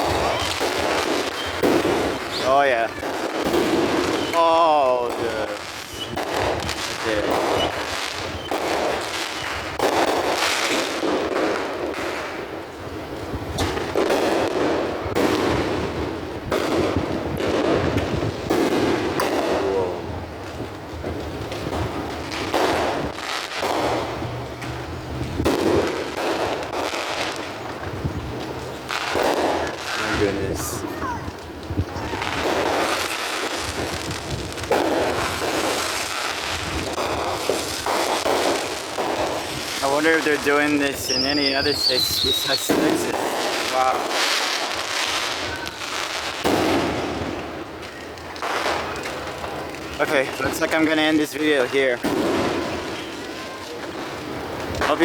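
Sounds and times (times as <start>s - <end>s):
fireworks bangs echoing: 0.0s - 55.0s.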